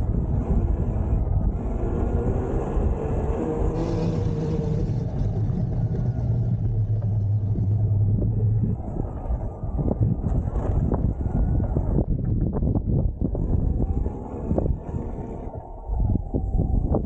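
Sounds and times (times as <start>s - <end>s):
tyres rumbling on dirt: 0.0s - 15.8s
steady low hum: 0.0s - 17.0s
wind buffeting microphone: 0.0s - 17.0s.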